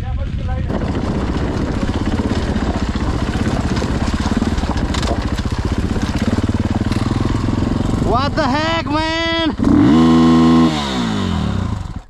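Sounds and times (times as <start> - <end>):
dirt bike engine putting: 0.4 - 12.0.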